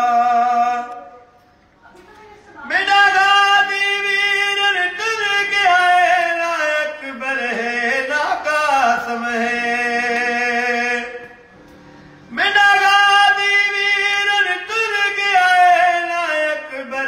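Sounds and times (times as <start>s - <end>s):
man singing a lament: 0.0s - 1.3s, 2.6s - 11.5s, 12.3s - 17.0s.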